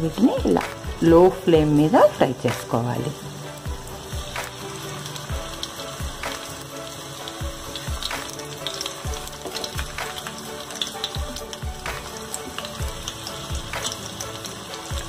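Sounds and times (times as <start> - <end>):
background music with low beat: 0.0 - 15.0
hot oil sizzling and popping: 0.0 - 15.0.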